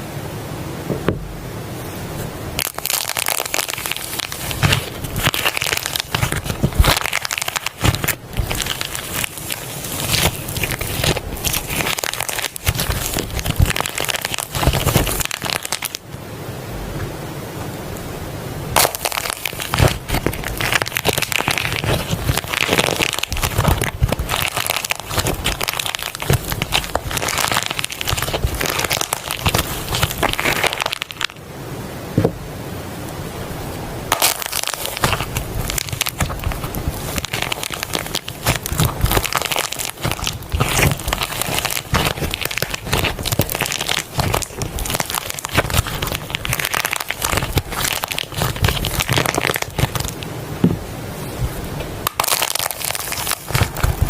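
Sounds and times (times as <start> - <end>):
slime crackling and popping: 2.5 - 16.0, 18.8 - 31.4, 34.1 - 50.3, 52.0 - 54.0.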